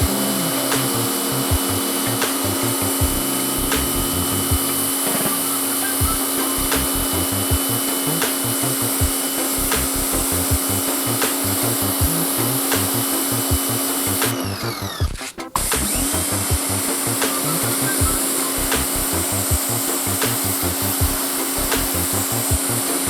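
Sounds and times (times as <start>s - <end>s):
background music with beat: 0.0s - 23.0s
pressure washer humming: 0.0s - 23.0s
water spray hiss: 0.1s - 14.3s, 16.7s - 23.0s.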